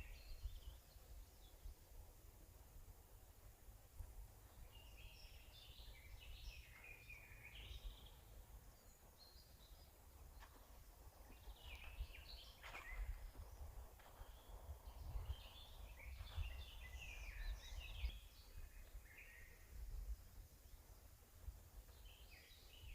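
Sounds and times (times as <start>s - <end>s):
low steady rumble: 0.0s - 22.2s
songbirds chirping: 0.0s - 22.9s.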